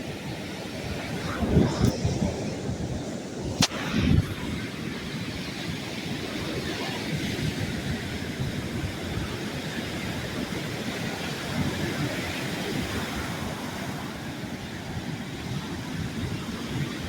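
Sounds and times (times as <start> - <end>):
ocean surf on shore: 0.0 - 17.0
wind buffeting microphone: 0.0 - 17.0.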